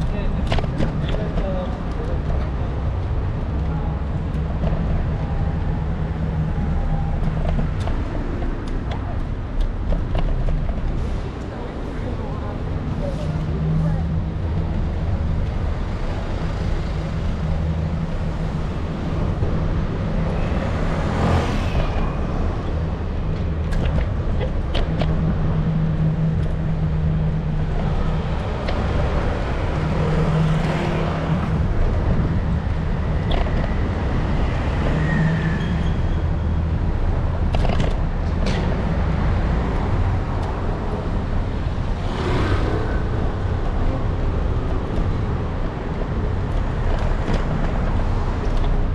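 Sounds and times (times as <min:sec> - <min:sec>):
low traffic rumble: 0:00.0 - 0:48.9
vehicles passing: 0:00.0 - 0:48.9.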